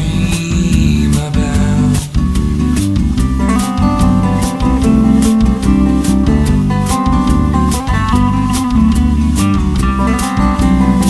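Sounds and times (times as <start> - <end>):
bass: 0.0 - 11.0
guitar playing: 0.0 - 11.0
steady drum beat: 0.0 - 11.0.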